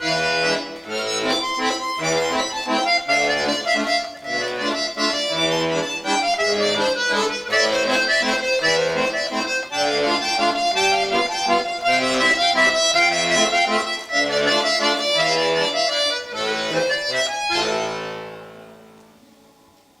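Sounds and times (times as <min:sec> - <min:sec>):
button accordion playing waltz: 0:00.0 - 0:18.9.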